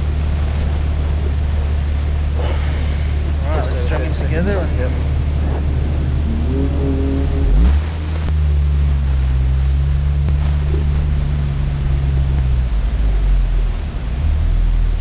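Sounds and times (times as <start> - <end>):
car engine at low revs: 0.0 - 15.0.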